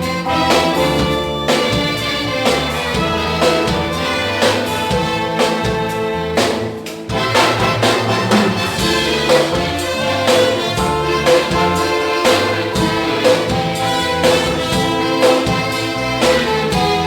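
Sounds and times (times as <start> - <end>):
band and orchestra playing gospel: 0.0 - 17.0.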